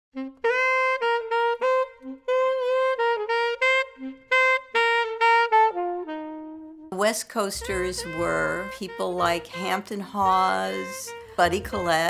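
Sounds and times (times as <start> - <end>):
jazz alto saxophone: 0.1 - 12.0.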